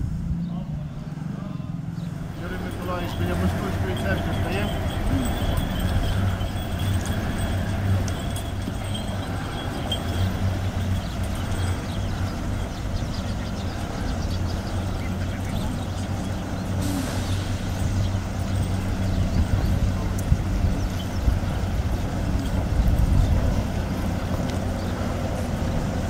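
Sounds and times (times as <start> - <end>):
crowd footsteps on road: 1.8 - 26.0.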